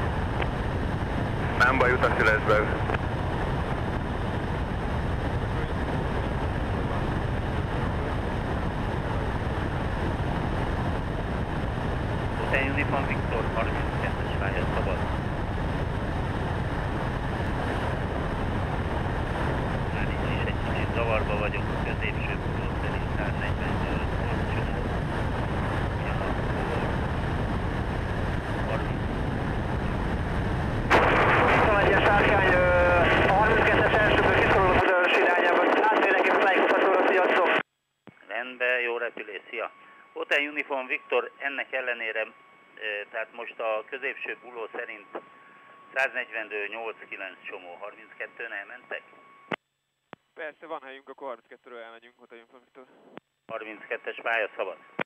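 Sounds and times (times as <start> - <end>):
aircraft engine and propeller drone: 0.0 - 36.4, 39.7 - 49.4.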